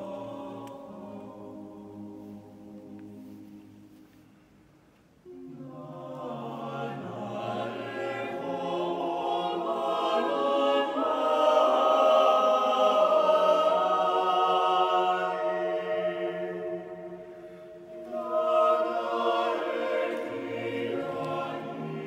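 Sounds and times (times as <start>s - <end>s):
choir singing a cappella: 0.0s - 3.8s, 5.2s - 22.0s.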